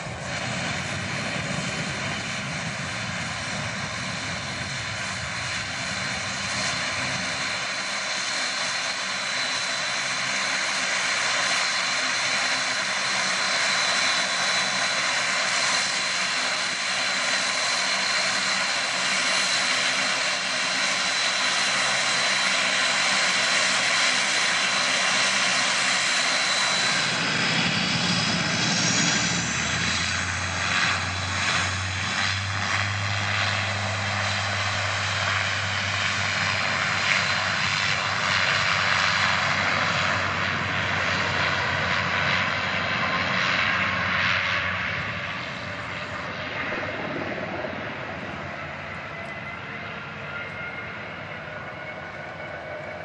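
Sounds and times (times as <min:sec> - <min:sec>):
jet turbofans whining: 0:00.0 - 0:53.0
turboprop propellers droning: 0:00.0 - 0:53.0.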